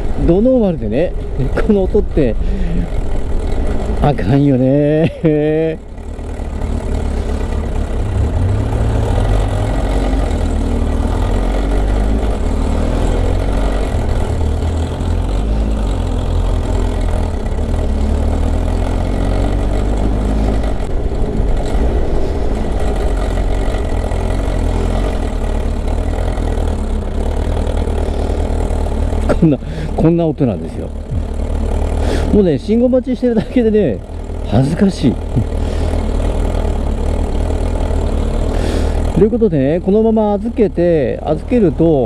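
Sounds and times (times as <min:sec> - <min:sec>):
motorcycle engine idling with clatter: 0:00.0 - 0:42.0.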